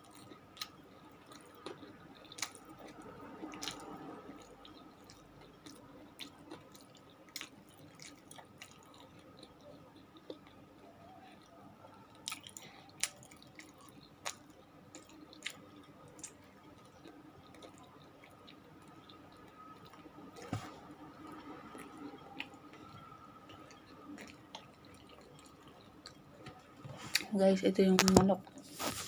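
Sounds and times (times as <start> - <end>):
person chewing food: 0.0 - 27.3
faint steady hum: 0.0 - 29.0.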